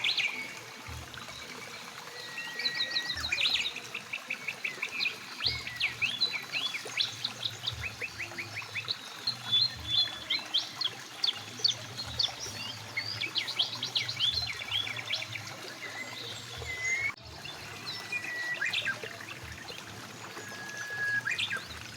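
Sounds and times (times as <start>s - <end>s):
flowing river hiss: 0.0s - 21.9s
small birds chirping: 0.0s - 21.9s.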